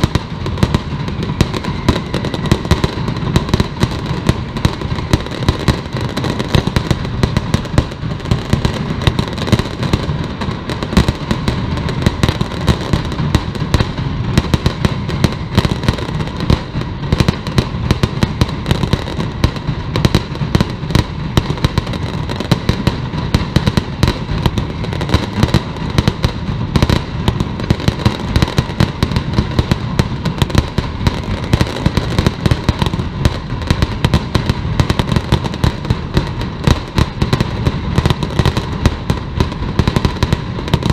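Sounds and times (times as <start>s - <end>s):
firecrackers banging rapidly: 0.0s - 40.9s.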